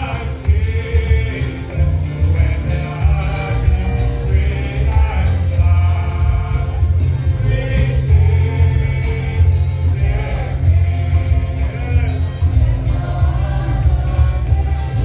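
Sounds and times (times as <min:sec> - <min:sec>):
group singing gospel: 0:00.0 - 0:15.0
heavy bass line: 0:00.0 - 0:15.0
light percussion: 0:00.0 - 0:15.0.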